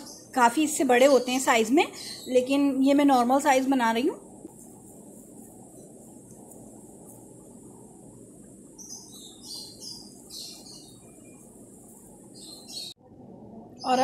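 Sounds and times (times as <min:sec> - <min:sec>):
bird chirping: 0:00.0 - 0:04.0, 0:04.9 - 0:13.0, 0:13.7 - 0:14.0
steady low background noise: 0:00.0 - 0:14.0.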